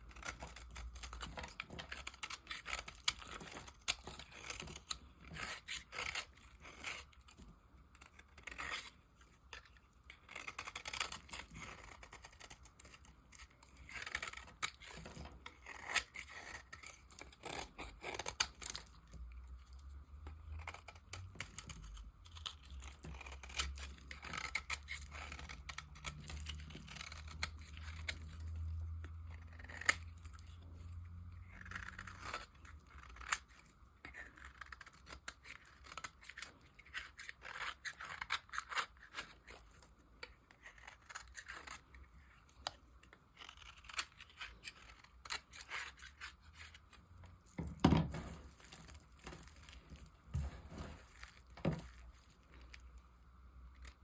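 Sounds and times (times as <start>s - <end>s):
blade scraping dry soap: 0.0s - 54.0s.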